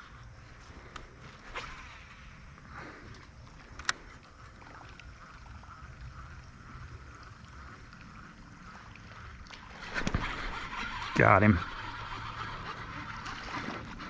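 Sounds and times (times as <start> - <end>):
creek water running: 0.0 - 14.0.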